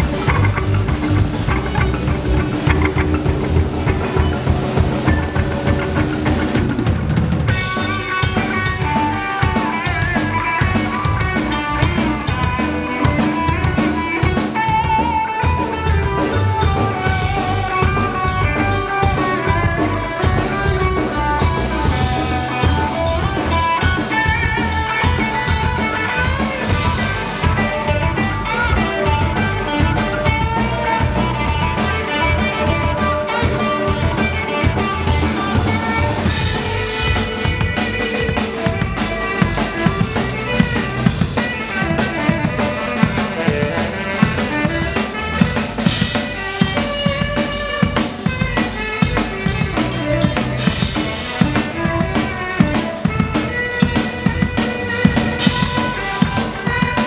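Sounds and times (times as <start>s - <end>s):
drum kit: 0.0s - 57.0s
electric guitar: 0.0s - 57.0s.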